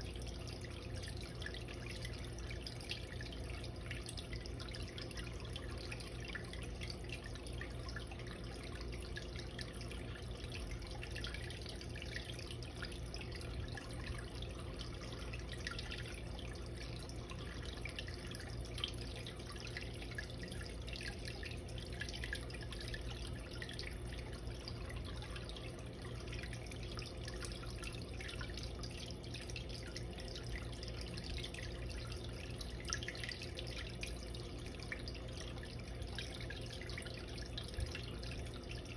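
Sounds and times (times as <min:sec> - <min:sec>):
low steady hum: 0:00.0 - 0:38.9
small splashes and bubbles: 0:00.0 - 0:38.9
water trickling and dripping: 0:00.0 - 0:38.9.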